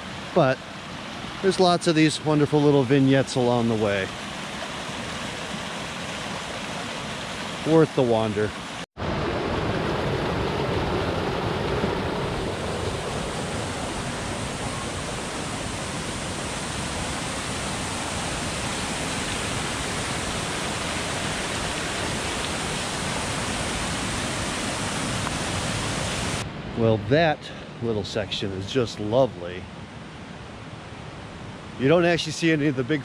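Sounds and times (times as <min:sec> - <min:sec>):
creek rushing over rocks: 0:00.0 - 0:26.4.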